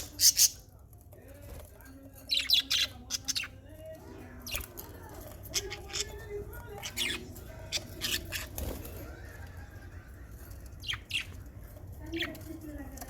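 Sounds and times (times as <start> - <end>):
lovebirds chirping: 0.0 - 0.6, 2.2 - 12.9.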